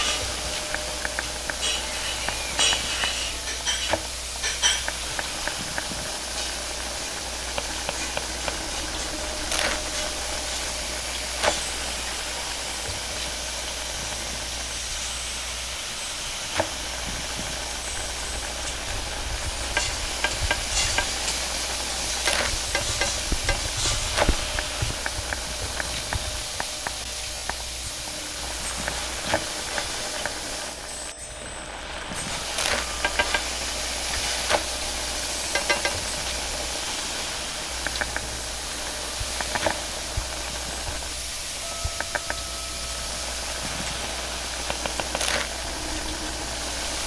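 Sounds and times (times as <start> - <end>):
food sizzling in a wok: 0.0 - 47.0.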